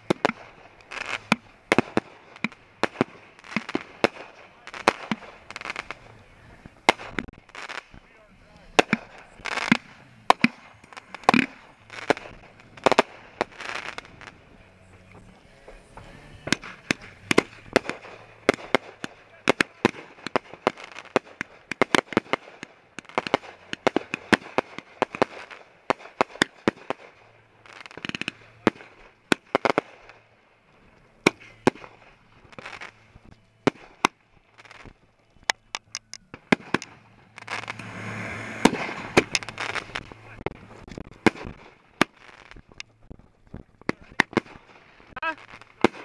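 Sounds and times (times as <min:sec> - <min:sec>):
fireworks banging and popping: 0:00.0 - 0:46.0.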